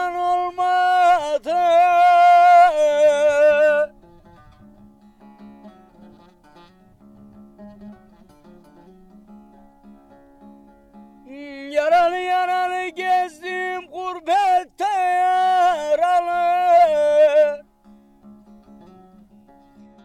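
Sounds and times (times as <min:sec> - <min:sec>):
person folk singing: 0:00.0 - 0:20.0
plucked string melody: 0:00.0 - 0:20.0.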